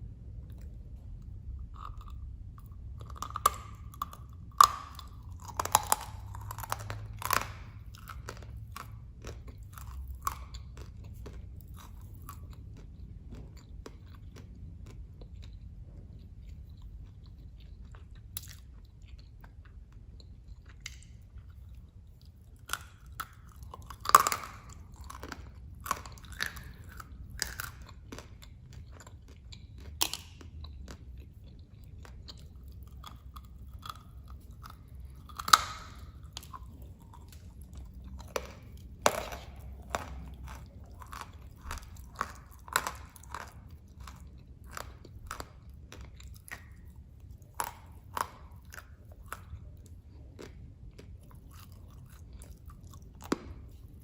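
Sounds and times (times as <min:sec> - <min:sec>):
chewing hard clay chunks: 0:00.4 - 0:54.0.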